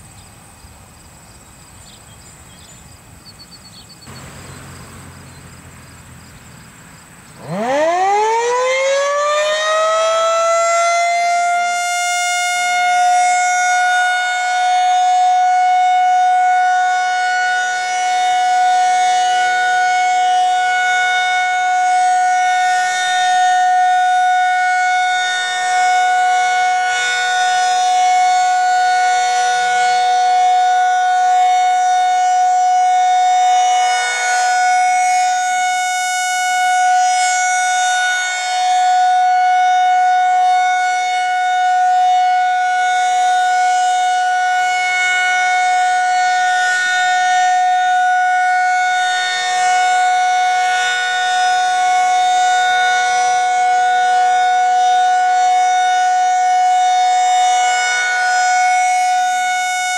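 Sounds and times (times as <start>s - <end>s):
warning siren high-pitched tone: 7.3s - 59.9s.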